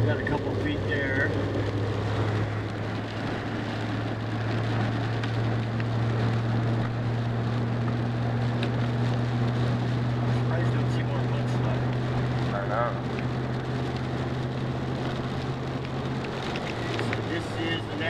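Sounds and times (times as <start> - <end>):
car engine hum: 0.0 - 18.0
road noise: 0.0 - 18.0.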